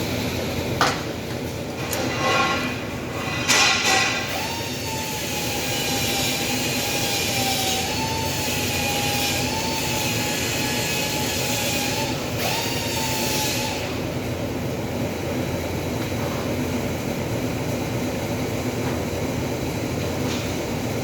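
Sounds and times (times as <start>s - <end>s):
constant machine noise: 0.0s - 21.0s
machine whine: 0.0s - 21.0s.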